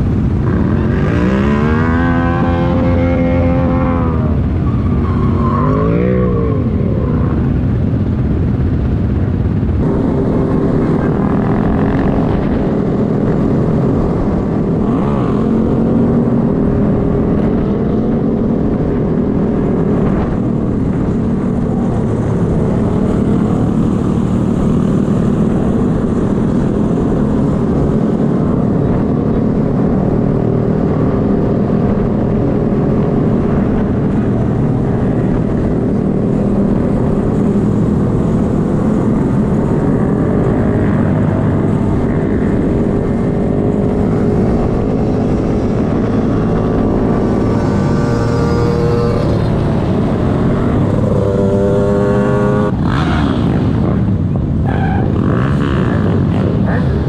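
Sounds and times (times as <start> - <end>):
constant rushing noise: 0.0 - 57.0
motorcycle engine revving: 0.0 - 57.0.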